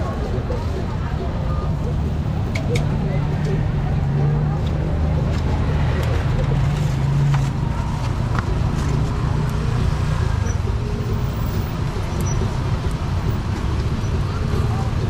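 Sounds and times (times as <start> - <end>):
motor scooter engines running: 0.0 - 15.0
roadside traffic noise: 0.0 - 15.0.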